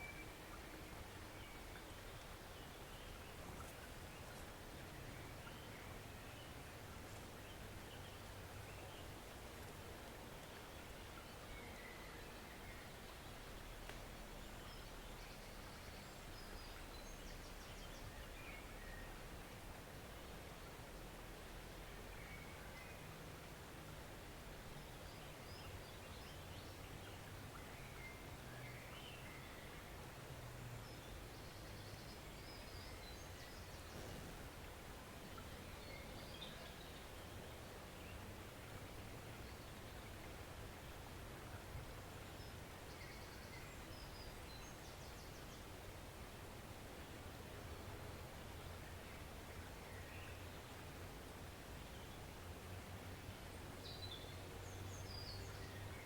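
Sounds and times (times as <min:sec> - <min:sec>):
small stream rushing: 0:00.0 - 0:56.0.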